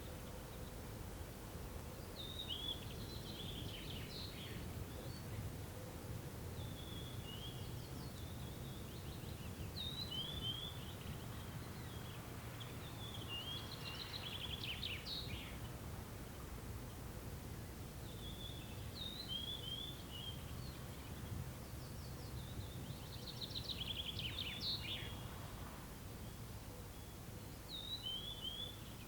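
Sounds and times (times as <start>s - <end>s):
low steady background rumble: 0.0s - 29.0s
songbird chirping and trilling: 1.9s - 15.8s, 18.0s - 25.4s, 26.2s - 29.0s.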